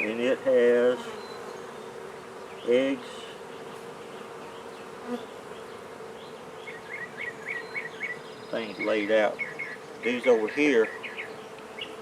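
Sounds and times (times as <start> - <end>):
honey bees humming: 0.0 - 12.0.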